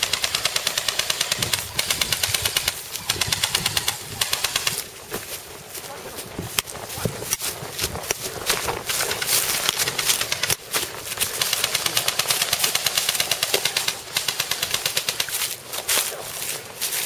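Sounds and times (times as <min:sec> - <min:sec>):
airsoft guns firing: 0:00.0 - 0:05.3, 0:06.5 - 0:15.6.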